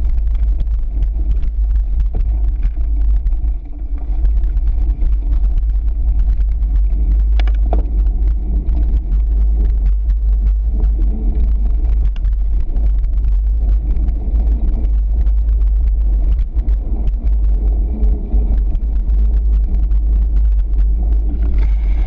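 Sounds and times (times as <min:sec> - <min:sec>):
bike clicks and rattles: 0:00.0 - 0:22.0
wind and vibration rumble: 0:00.0 - 0:22.0.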